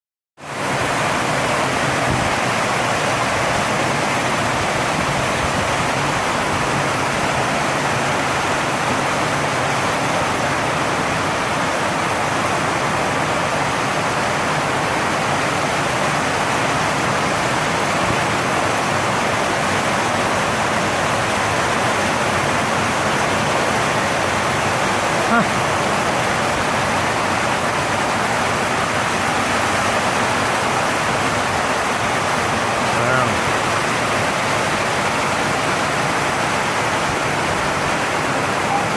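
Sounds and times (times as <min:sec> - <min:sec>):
heavy rain on a tin roof: 0:00.4 - 0:38.9.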